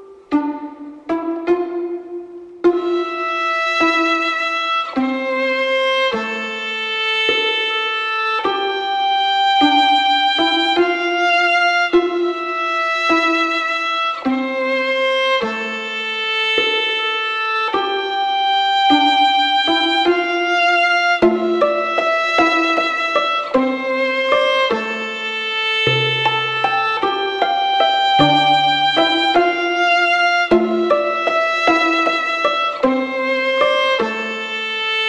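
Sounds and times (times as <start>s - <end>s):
violin playing held notes: 0.0s - 35.0s.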